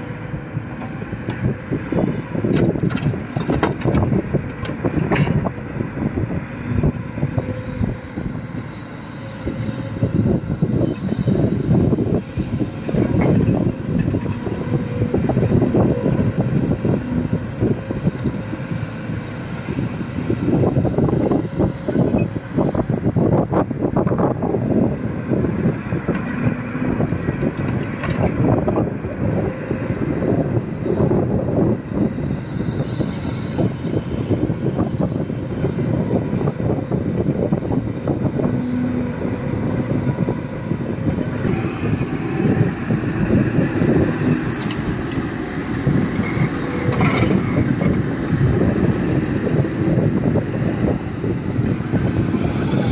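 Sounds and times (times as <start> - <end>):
excavator diesel engine under load: 0.0 - 52.9
wind buffeting microphone: 0.0 - 52.9.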